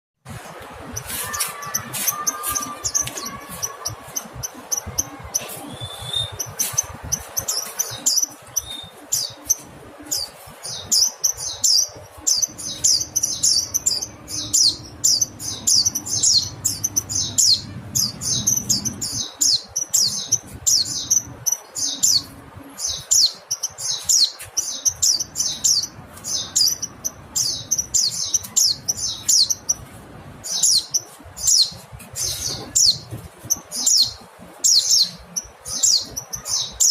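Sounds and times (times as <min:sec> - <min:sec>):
bird chirping: 0:00.8 - 0:36.9.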